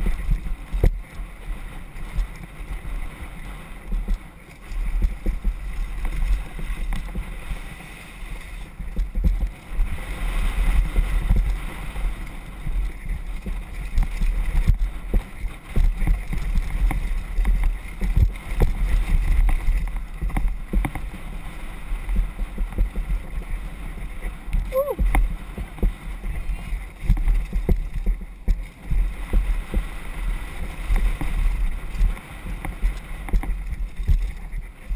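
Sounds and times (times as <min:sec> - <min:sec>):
mountain bike rattling: 0:00.0 - 0:24.5, 0:25.3 - 0:34.9
wind rumbling on microphone: 0:00.0 - 0:34.9.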